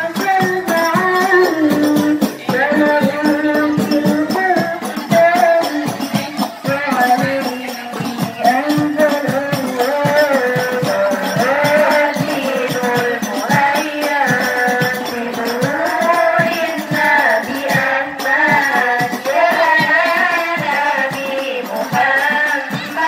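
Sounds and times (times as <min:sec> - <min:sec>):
girls singing in unison: 0:00.0 - 0:23.0.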